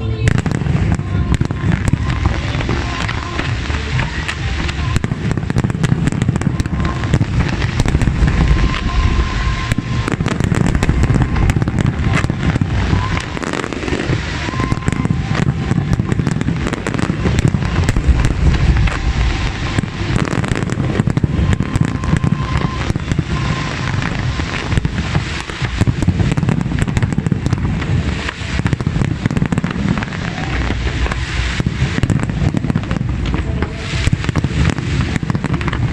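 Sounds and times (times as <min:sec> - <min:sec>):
fireworks pops and cracks: 0:00.0 - 0:35.9
low rumble: 0:00.0 - 0:35.9.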